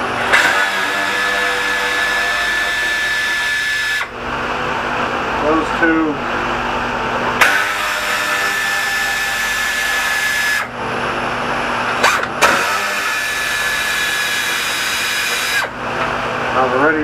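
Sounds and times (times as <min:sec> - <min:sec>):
cordless power driver whining: 0:00.0 - 0:05.0, 0:07.4 - 0:16.2.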